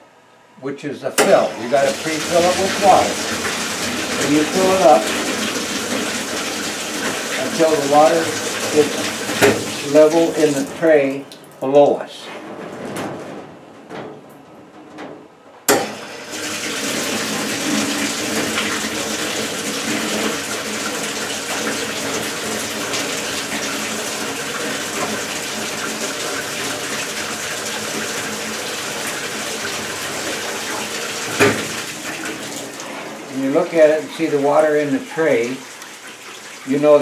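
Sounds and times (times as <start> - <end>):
water rushing into dishwasher: 1.2 - 11.9, 15.7 - 37.0.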